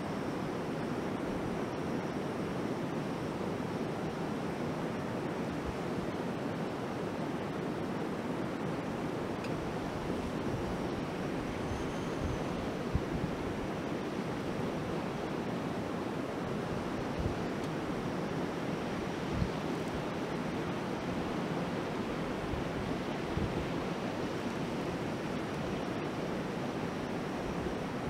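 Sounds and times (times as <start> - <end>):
wind rumbling on microphone: 2.8 - 28.0.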